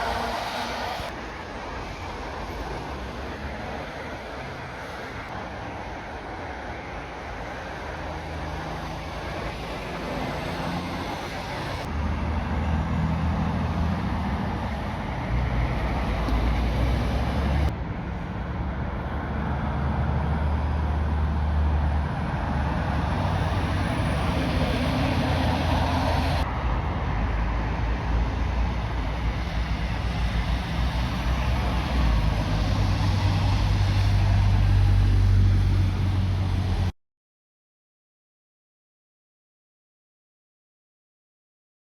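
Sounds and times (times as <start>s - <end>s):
lorry diesel engines passing: 0.0s - 36.9s
tyre and road noise: 0.0s - 36.9s.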